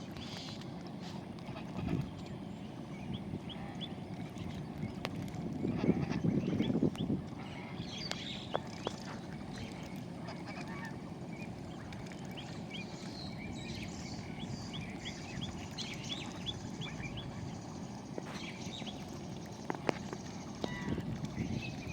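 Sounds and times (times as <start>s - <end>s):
birds chirping: 0.0s - 21.9s
low background rumble: 0.0s - 21.9s.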